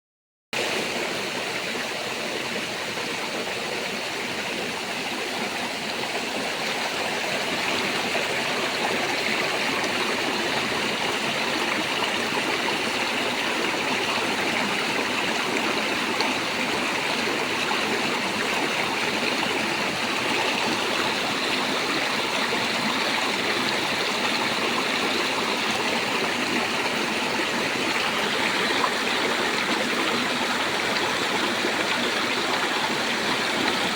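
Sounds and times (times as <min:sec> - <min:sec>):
water rushing over waterfall: 0:00.6 - 0:33.9.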